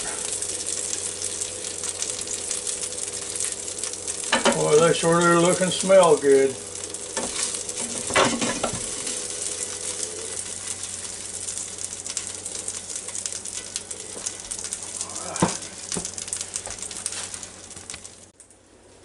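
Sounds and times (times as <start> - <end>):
fat sizzling and crackling: 0.0 - 19.0.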